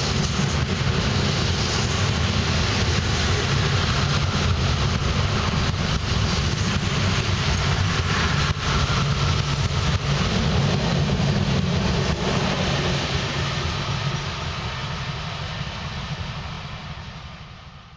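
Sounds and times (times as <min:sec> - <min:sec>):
freight train rolling on rails: 0:00.0 - 0:17.9.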